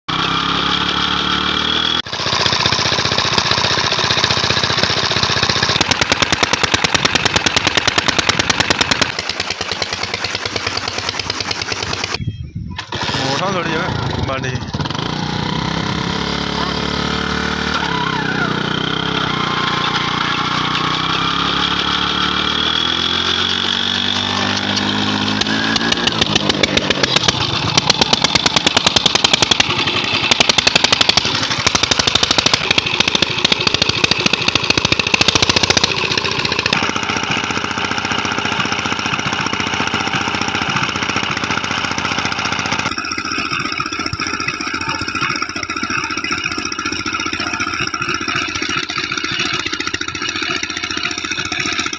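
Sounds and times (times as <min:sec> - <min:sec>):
diesel engine revving: 0:00.0 - 0:12.2, 0:12.9 - 0:51.9.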